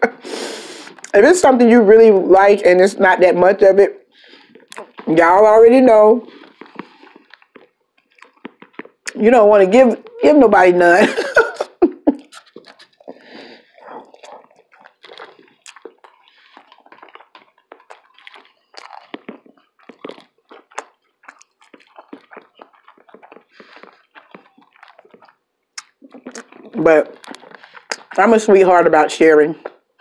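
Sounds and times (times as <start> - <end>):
person chewing food: 3.9 - 29.0, 29.6 - 30.0.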